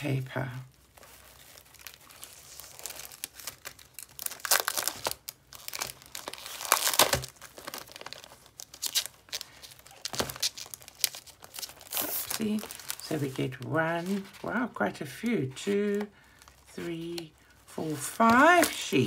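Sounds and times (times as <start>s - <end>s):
plastic wrapping crinkling: 0.7s - 19.0s.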